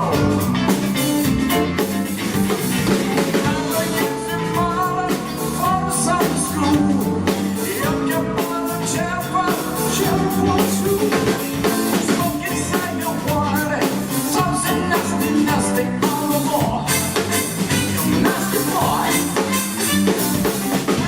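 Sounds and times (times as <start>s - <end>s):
person singing: 0.0s - 1.7s, 2.9s - 21.0s
drum kit: 0.0s - 21.0s
guitar: 0.0s - 21.0s
live pop-rock band: 0.0s - 21.0s.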